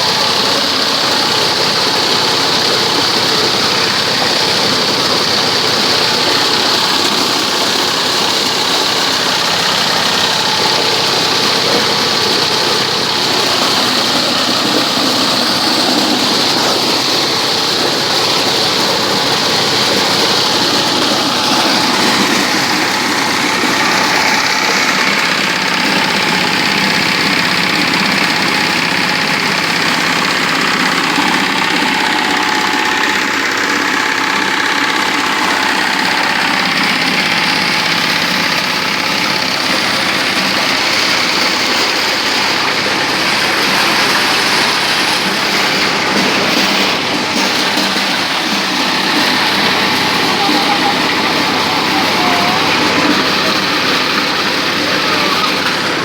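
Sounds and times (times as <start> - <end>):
corn sheller engine running: 0.0 - 56.0.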